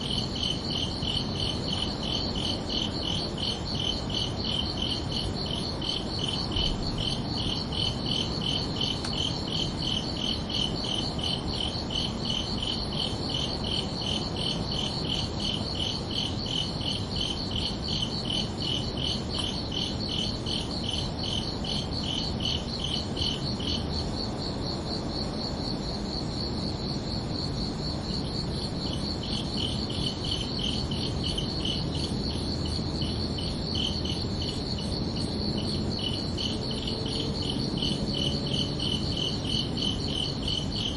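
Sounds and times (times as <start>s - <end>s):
cricket lower chirps: 0.0s - 40.9s
low steady background noise: 0.0s - 40.9s.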